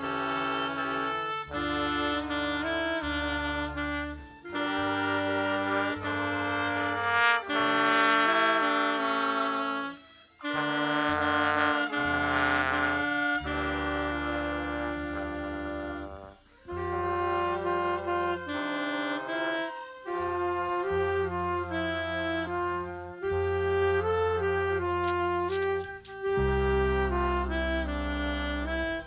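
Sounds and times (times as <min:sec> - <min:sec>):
orchestra playing held chords: 0:00.0 - 0:29.0
wind instruments: 0:00.0 - 0:29.0.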